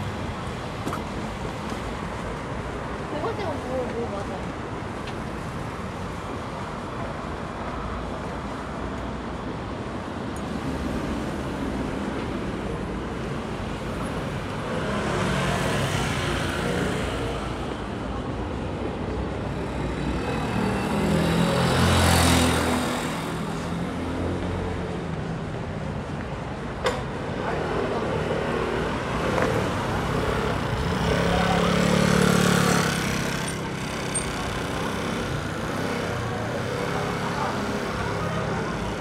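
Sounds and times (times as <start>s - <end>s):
road noise hum: 0.0s - 39.0s
vehicles passing: 0.0s - 39.0s.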